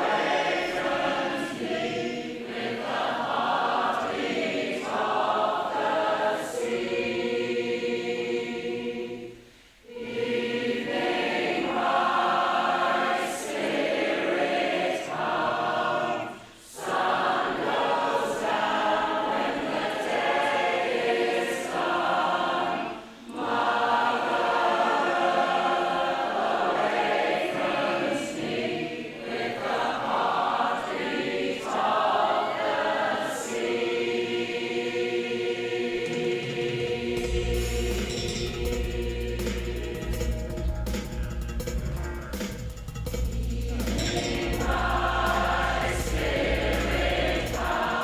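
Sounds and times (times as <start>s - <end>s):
women's choir singing: 0.0s - 40.4s, 43.6s - 48.0s.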